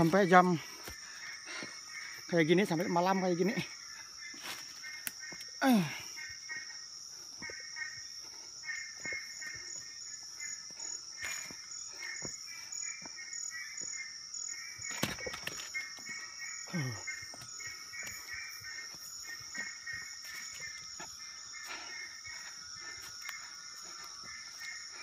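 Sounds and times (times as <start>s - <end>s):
high-pitched insect drone: 0.0s - 25.0s
rhythmic insect chirping: 0.0s - 25.0s.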